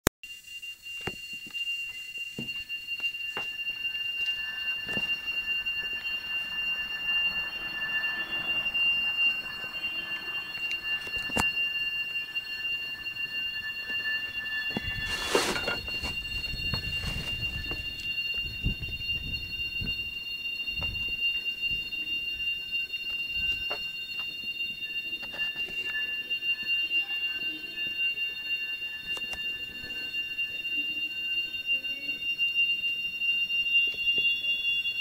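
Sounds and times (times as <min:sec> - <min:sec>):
lower wavering tone: 0:00.3 - 0:35.0
high-pitched piercing screech: 0:01.9 - 0:35.0.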